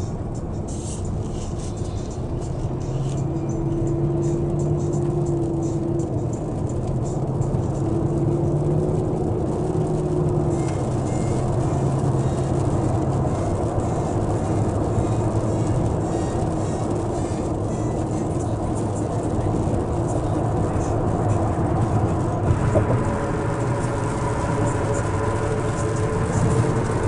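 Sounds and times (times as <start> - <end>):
car engine running: 0.0 - 27.0
road noise: 0.0 - 27.0.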